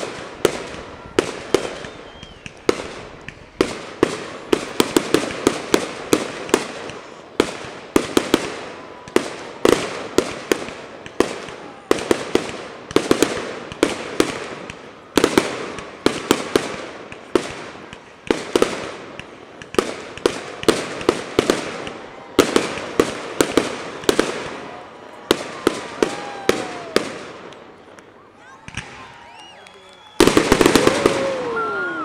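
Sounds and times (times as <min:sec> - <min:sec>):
fireworks bursting with echo: 0:00.0 - 0:32.0.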